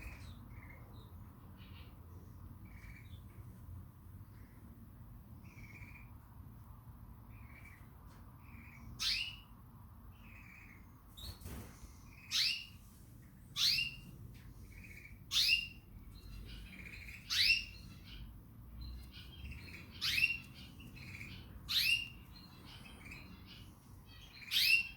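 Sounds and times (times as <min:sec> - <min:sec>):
canary chirps: 0:00.0 - 0:24.9.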